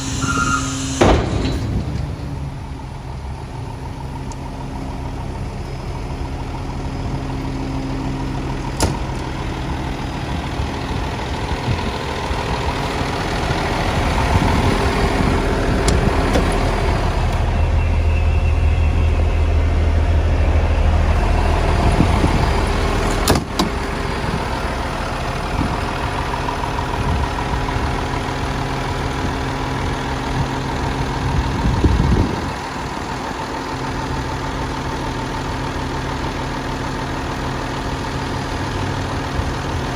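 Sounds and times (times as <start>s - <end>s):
garbage truck engine idling: 0.0s - 39.9s.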